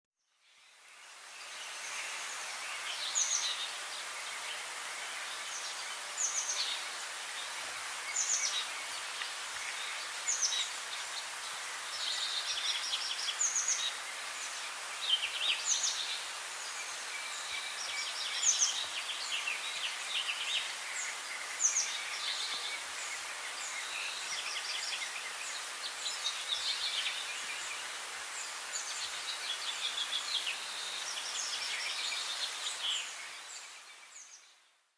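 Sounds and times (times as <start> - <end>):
songbirds singing: 0.2 - 34.8
steady background hiss: 0.3 - 34.9.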